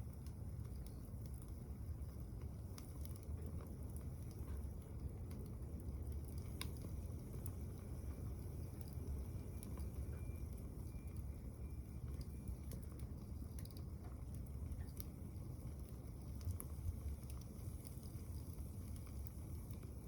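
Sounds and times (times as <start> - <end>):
burning wood crackling: 0.0 - 20.0
wood stove low rumble: 0.0 - 20.0.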